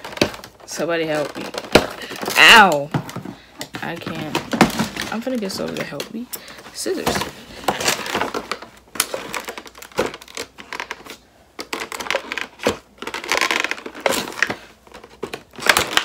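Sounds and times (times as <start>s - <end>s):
packaging clicks and knocks: 0.0s - 16.0s
packaging crinkling: 0.0s - 16.0s.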